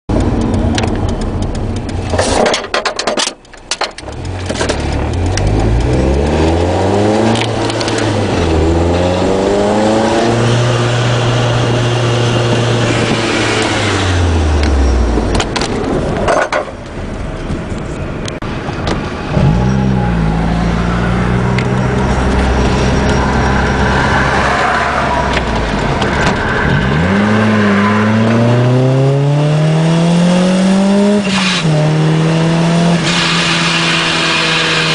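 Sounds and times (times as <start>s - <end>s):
car engine accelerating: 3.9s - 16.2s, 17.2s - 34.9s.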